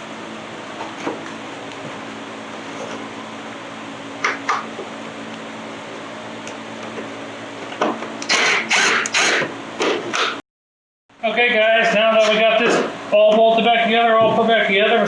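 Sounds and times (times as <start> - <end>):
steady low hum: 0.0 - 10.4, 11.1 - 15.0.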